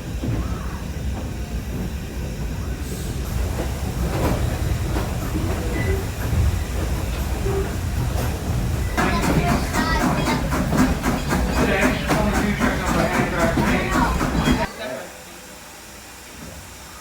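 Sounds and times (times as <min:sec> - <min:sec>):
train clanks and rattles: 0:00.0 - 0:14.8
train rumbling on track: 0:00.0 - 0:14.8.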